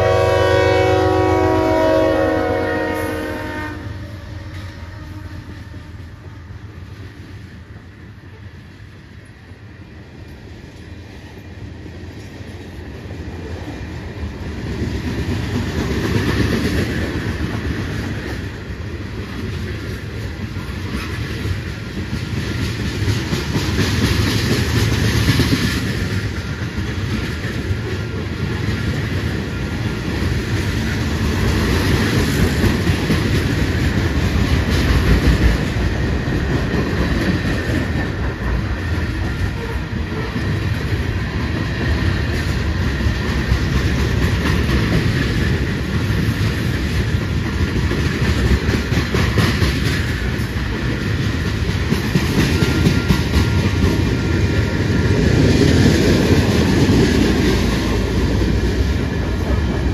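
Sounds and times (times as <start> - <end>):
train wheels clacking on rails: 0.0 - 59.9.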